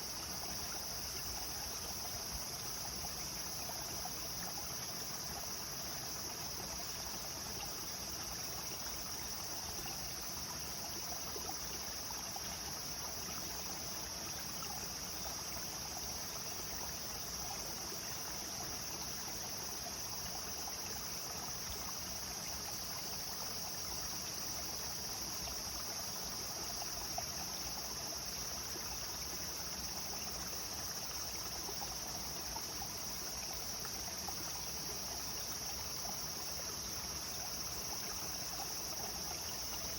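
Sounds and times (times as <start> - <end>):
insects droning: 0.0 - 39.9
river water flowing over stones: 0.0 - 39.9.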